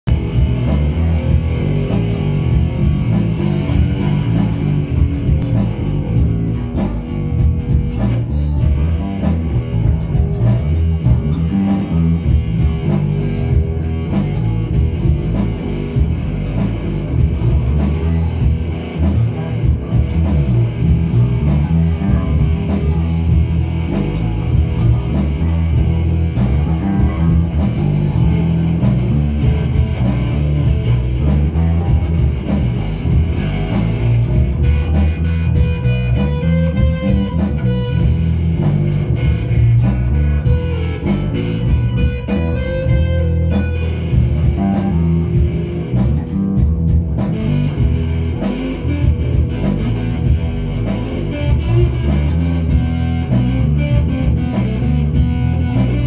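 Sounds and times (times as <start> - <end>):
electric guitars playing rock riff: 0.0 - 56.0.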